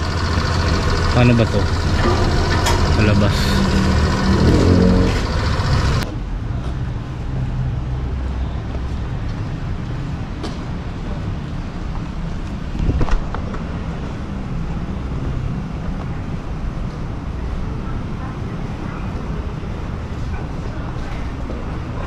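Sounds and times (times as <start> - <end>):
street traffic engines: 0.0 - 22.0.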